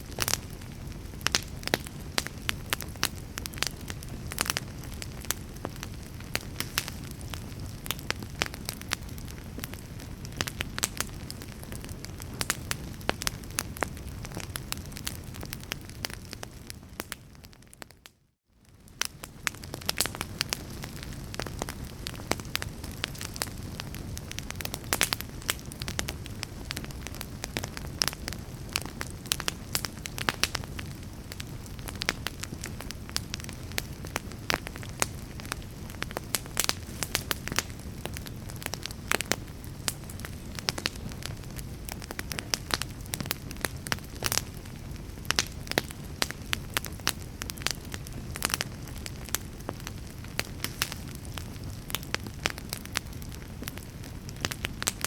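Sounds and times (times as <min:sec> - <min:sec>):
fire crackling with sharp pops: 0:00.0 - 0:55.0.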